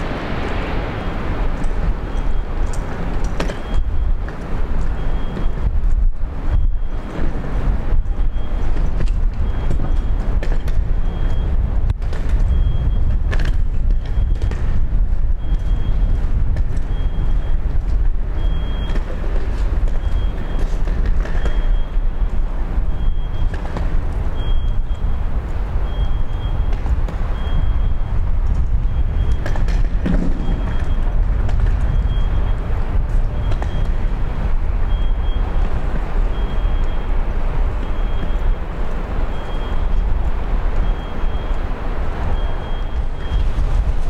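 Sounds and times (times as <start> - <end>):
reversing alarm beeping: 0.0 - 11.7, 12.4 - 44.0
vehicle rumbling: 0.0 - 44.0.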